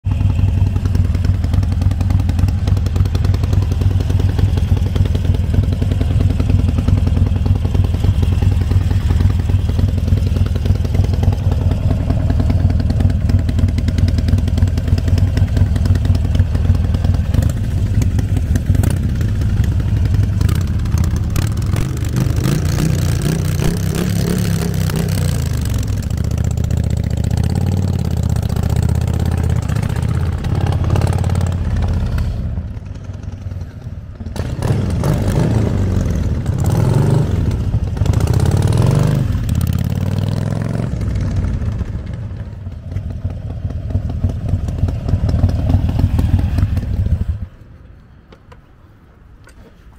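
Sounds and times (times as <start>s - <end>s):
motorcycle engine idling and revving: 0.0s - 48.6s.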